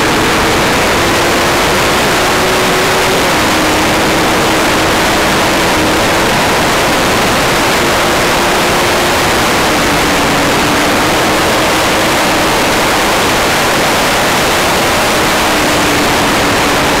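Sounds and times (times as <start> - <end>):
faint motorcycle engine drone: 0.0 - 17.0
wind blasting microphone: 0.0 - 17.0.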